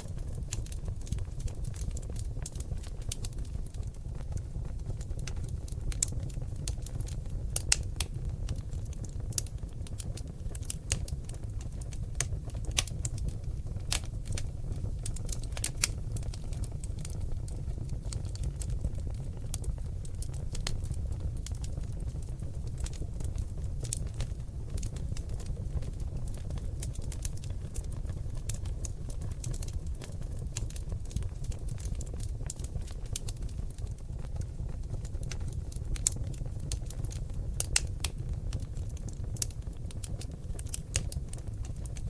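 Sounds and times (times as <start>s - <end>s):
logs crackling and popping: 0.0s - 42.0s
low rumble of flames: 0.0s - 42.0s.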